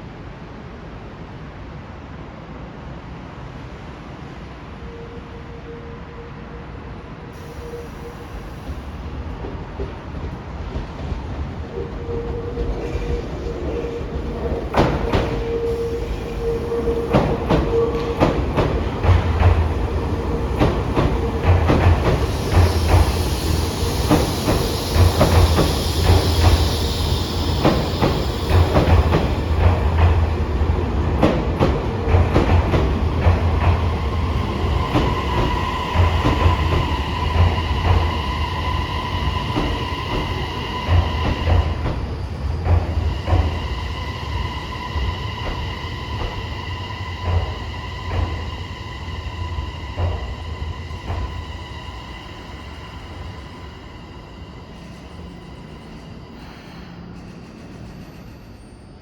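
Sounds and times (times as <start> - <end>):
subway train rumbling: 0.0 - 59.0.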